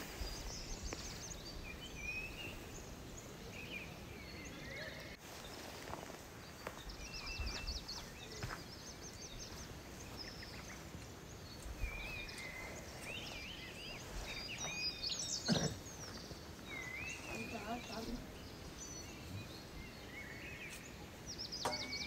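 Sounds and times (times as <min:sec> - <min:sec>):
rural background noise: 0:00.0 - 0:22.0
small birds chirping and whistling: 0:00.0 - 0:22.0.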